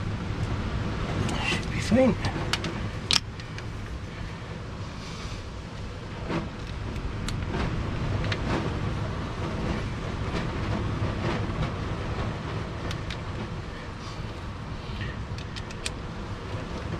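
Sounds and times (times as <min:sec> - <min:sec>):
low background rumble: 0:00.0 - 0:16.9.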